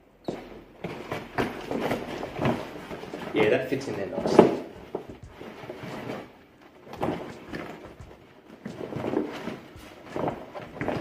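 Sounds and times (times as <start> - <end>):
dive bag rustling and bumping: 0.1 - 11.0.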